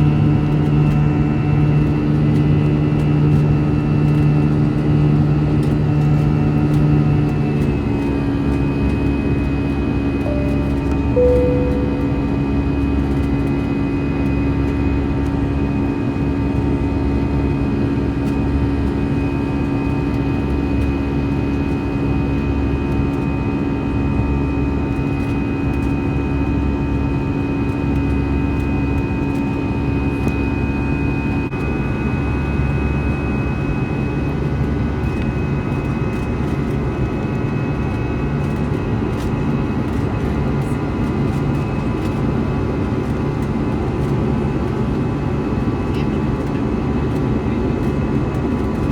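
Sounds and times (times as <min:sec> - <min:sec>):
jet engine cabin drone: 0:00.0 - 0:48.9.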